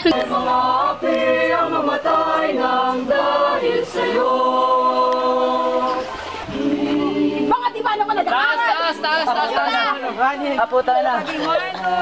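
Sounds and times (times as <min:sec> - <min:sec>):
choir singing a cappella: 0:00.0 - 0:09.7, 0:11.3 - 0:12.0.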